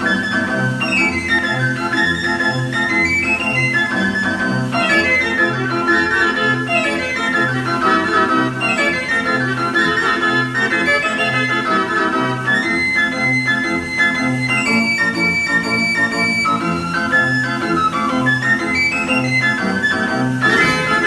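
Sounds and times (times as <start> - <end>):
band organ playing tune: 0.0 - 21.0.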